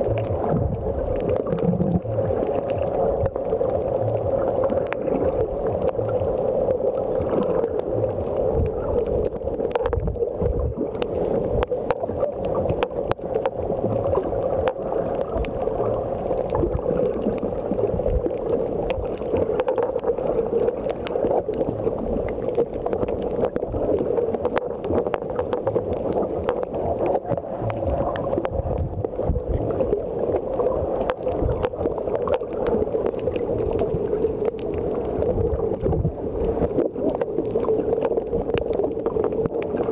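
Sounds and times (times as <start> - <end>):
muffled underwater hiss: 0.0 - 39.9
underwater clicks and crackles: 0.0 - 39.9.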